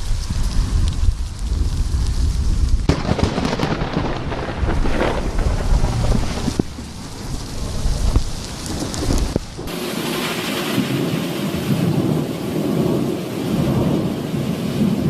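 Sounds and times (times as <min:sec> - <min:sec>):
crackles: 0:00.0 - 0:15.0
steady rain: 0:00.0 - 0:15.0
thunder rumbling: 0:00.0 - 0:15.0
thunderclap: 0:00.0 - 0:15.0.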